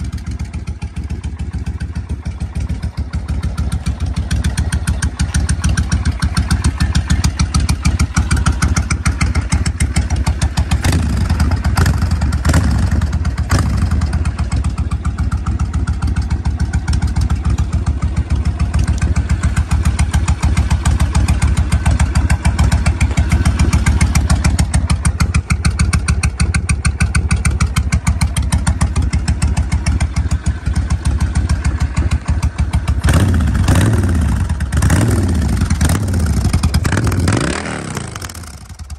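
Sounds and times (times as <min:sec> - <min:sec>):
motorcycle engine idling: 0:00.0 - 0:38.9
motorcycle engine revving: 0:00.0 - 0:38.9.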